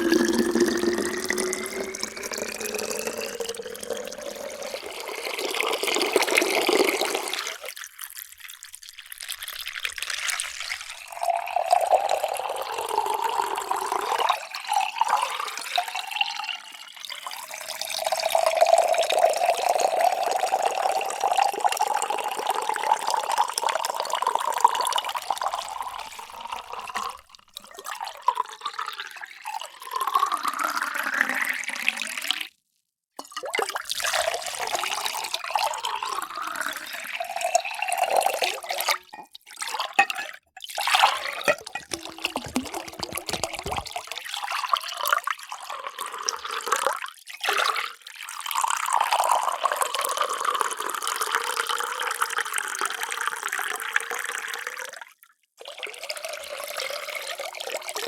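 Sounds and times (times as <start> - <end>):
water pouring into container: 0.0 - 32.6, 33.2 - 58.0.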